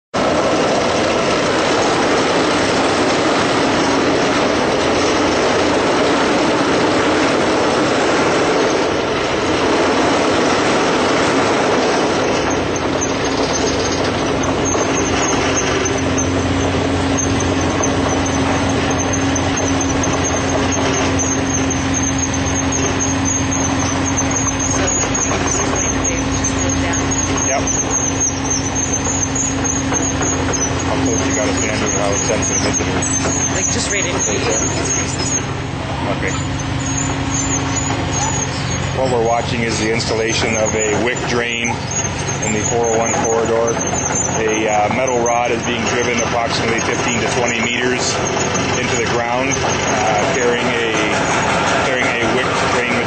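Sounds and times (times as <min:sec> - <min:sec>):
excavator diesel engine and hydraulics: 0:00.1 - 0:53.0
steady droning hum: 0:00.2 - 0:53.0.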